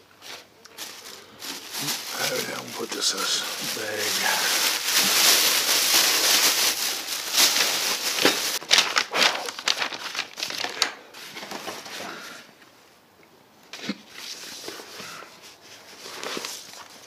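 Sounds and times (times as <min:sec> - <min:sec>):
plastic and paper crinkling: 0:00.2 - 0:12.4, 0:14.1 - 0:17.0.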